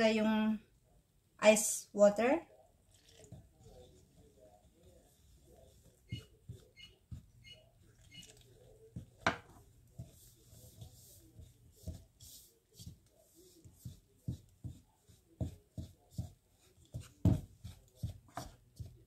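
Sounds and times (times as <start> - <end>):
utensil stirring dough in plastic bowl: 2.2 - 19.0.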